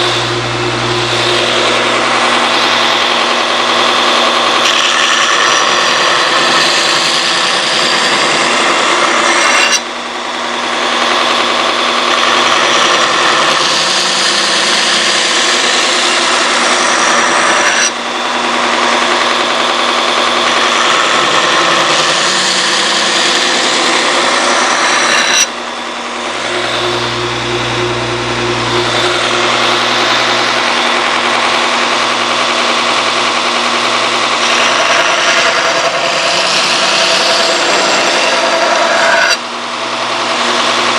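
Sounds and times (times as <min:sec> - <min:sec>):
electric grinder grinding steel: 0:00.0 - 0:40.9.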